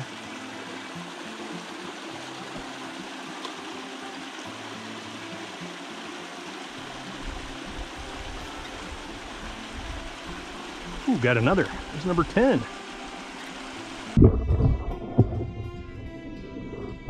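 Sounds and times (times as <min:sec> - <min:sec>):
creek trickling over rocks: 0:00.0 - 0:17.0.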